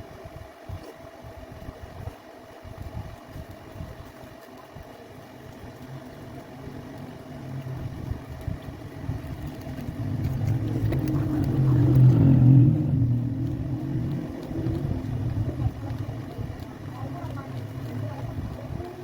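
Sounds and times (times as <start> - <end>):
low motor rumble with hum: 0.0 - 19.0.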